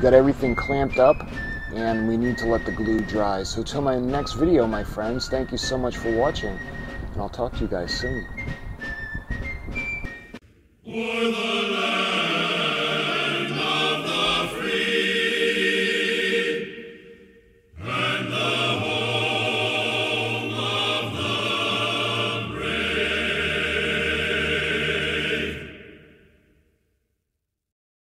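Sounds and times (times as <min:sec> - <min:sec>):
music of held notes: 0:00.0 - 0:26.0.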